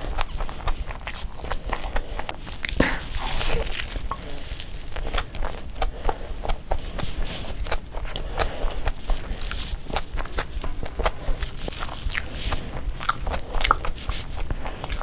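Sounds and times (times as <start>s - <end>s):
biting and chewing: 0.0s - 15.0s.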